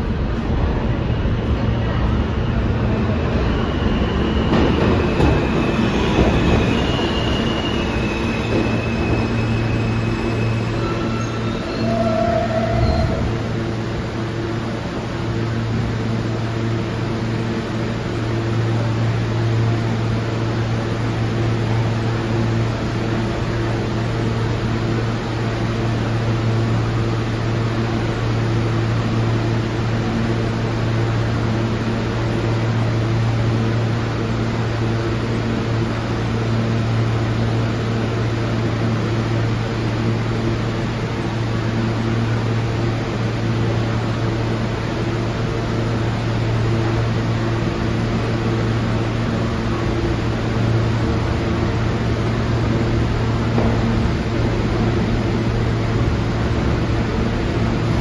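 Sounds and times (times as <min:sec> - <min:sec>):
train equipment humming: 0:00.0 - 0:58.0.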